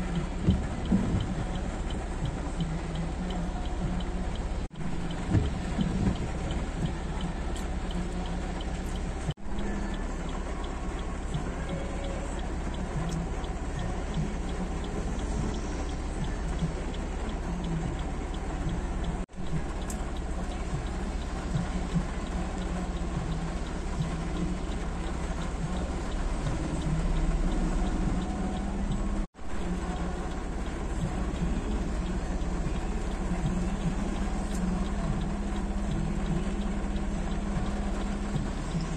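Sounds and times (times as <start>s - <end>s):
heavy rain: 0.0s - 38.9s
low engine hum of traffic: 0.0s - 38.9s.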